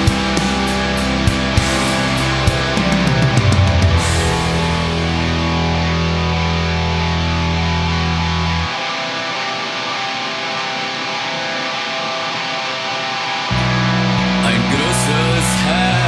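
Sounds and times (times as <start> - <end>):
guitar: 0.0 - 16.0.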